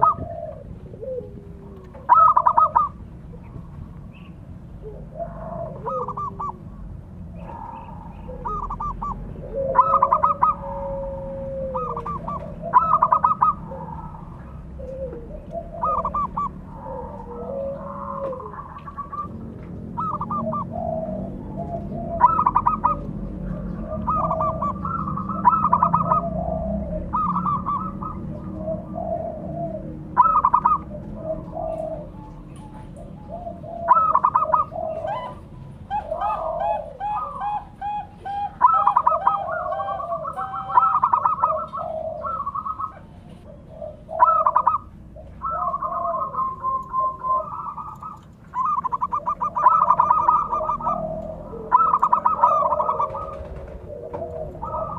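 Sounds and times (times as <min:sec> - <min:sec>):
dove cooing: 0:00.0 - 0:54.9.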